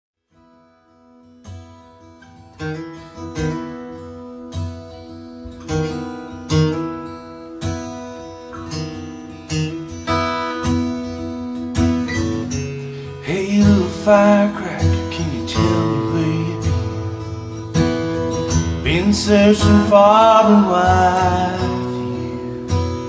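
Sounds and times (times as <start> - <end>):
acoustic guitar strumming chords: 0.3 - 23.0.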